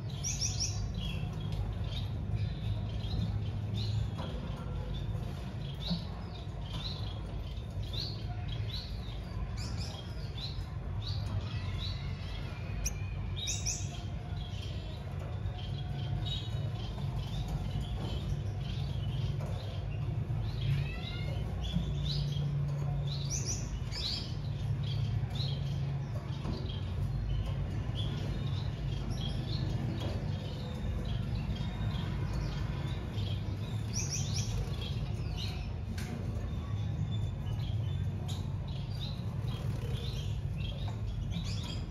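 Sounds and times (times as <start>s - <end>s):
finch chirping: 0.0s - 41.9s.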